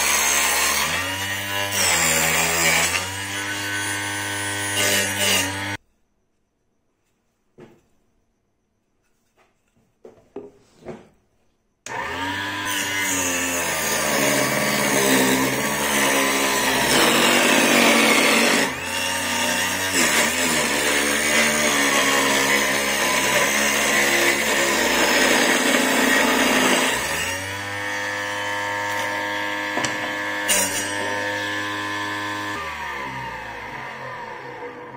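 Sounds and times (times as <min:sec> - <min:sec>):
table saw whining: 0:00.0 - 0:05.8, 0:11.9 - 0:34.9.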